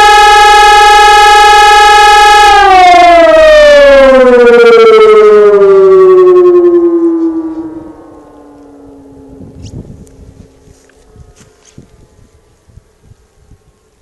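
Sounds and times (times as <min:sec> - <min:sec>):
siren winding down: 0:00.0 - 0:12.1.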